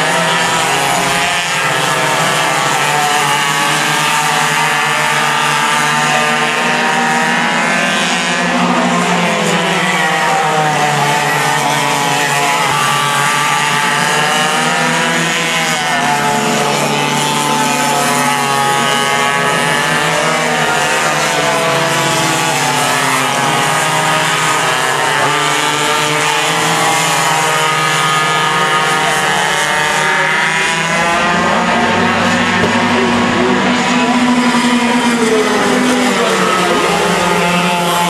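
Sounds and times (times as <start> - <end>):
go-kart engines racing: 0.0 - 38.0.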